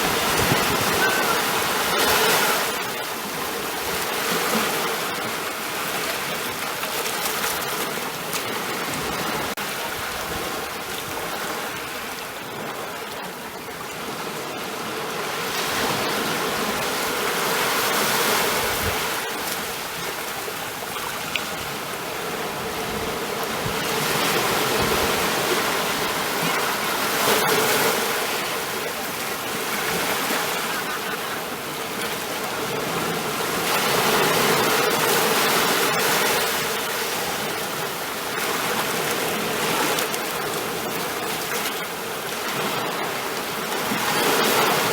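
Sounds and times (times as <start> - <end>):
ocean waves: 0.0 - 44.9.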